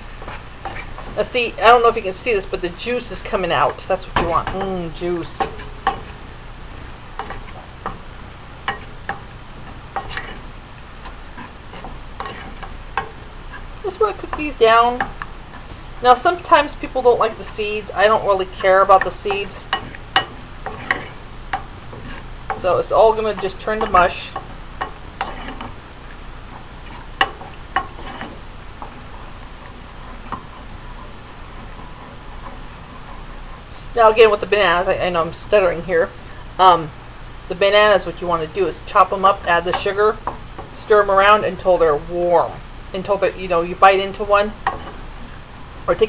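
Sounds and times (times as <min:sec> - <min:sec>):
faint steady hiss of cooking: 0:00.0 - 0:46.0
wooden spoon stirring in saucepan: 0:00.0 - 0:46.0.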